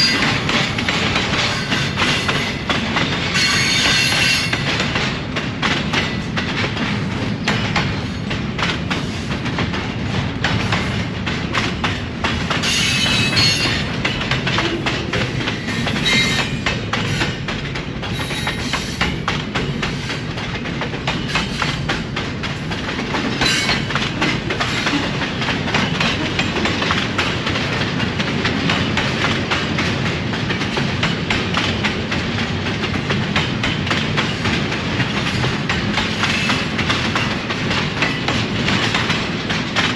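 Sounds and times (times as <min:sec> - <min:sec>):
train wheels clicking on rails: 0:00.0 - 0:39.9.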